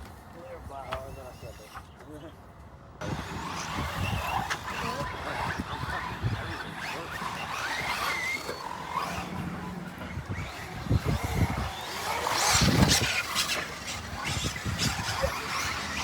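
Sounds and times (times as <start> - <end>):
radio-controlled cars running: 0.0 - 2.4, 3.0 - 16.0.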